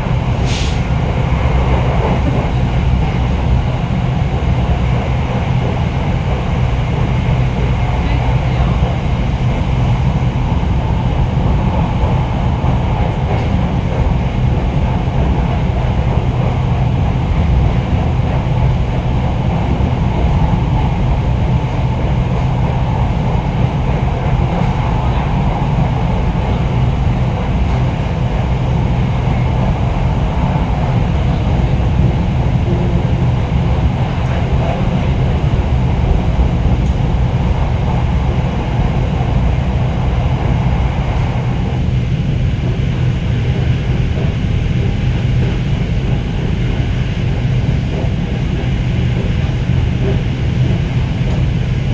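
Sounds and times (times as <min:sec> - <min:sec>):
train wheels rumbling on track: 0:00.0 - 0:51.9.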